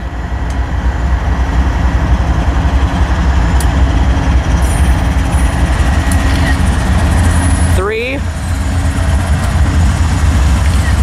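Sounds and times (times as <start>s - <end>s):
diesel locomotive engine rumble: 0.0s - 11.0s
rail noise: 0.0s - 11.0s.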